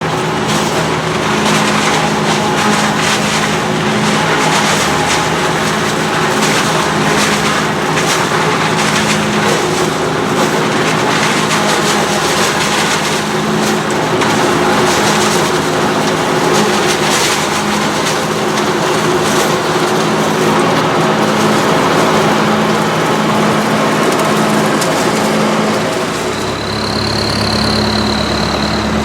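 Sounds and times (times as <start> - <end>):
forage harvester chopping: 0.0 - 29.0
tractor engine running under load: 0.0 - 29.0.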